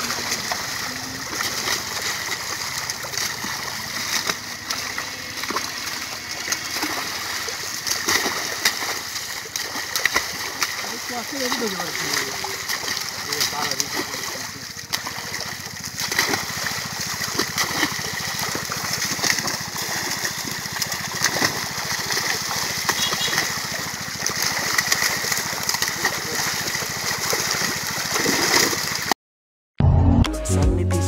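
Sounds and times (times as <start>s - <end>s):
fish thrashing and splashing: 0.0s - 29.1s
water splashing and churning: 0.0s - 29.2s.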